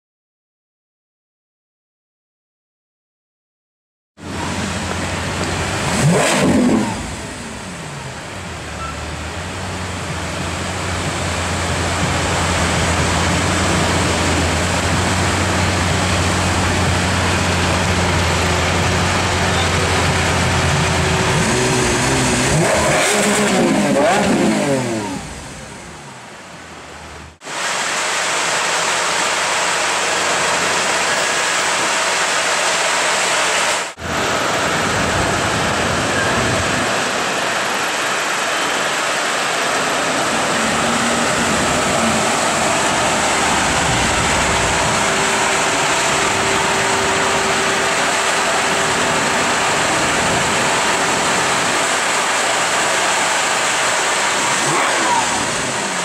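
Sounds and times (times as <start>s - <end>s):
car engine idling: 4.2s - 56.0s
car engine revving: 4.2s - 56.0s
loud street noise: 4.2s - 56.0s.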